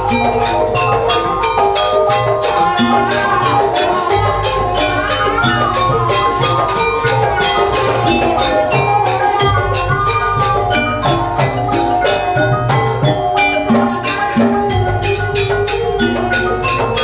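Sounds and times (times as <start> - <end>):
drums: 0.0 - 17.0
sliding melody line: 0.0 - 17.0
struck metal percussion: 0.0 - 17.0.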